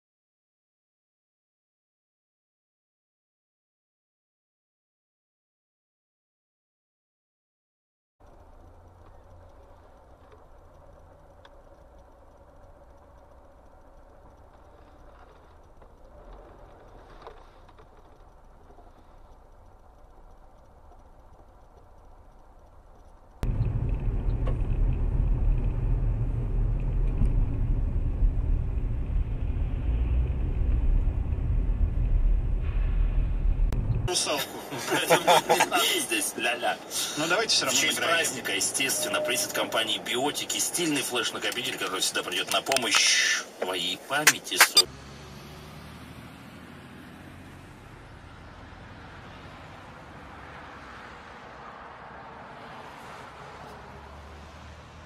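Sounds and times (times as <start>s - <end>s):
car engine rumble: 8.2s - 38.7s, 39.4s - 55.0s
tyres on road: 8.2s - 55.0s.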